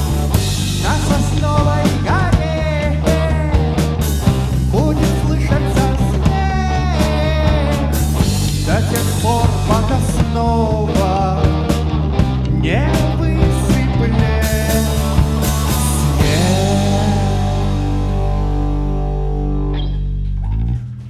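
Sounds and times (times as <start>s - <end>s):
live rock band: 0.0s - 20.8s.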